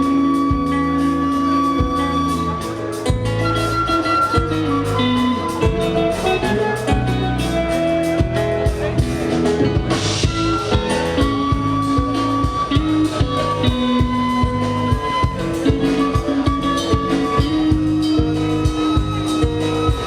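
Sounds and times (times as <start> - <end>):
drum kit beat: 0.0 - 20.0
live band playing: 0.0 - 20.0.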